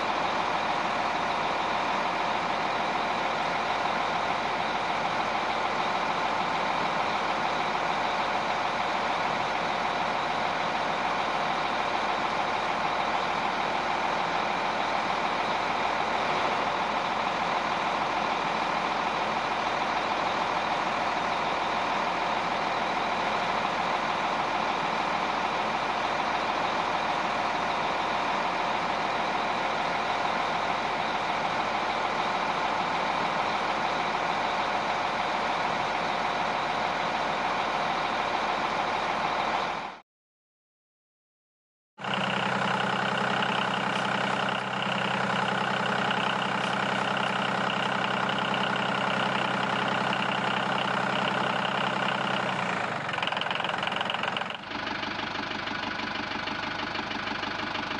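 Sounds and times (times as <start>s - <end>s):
heavy truck engine running: 0.0s - 40.0s, 42.0s - 57.9s.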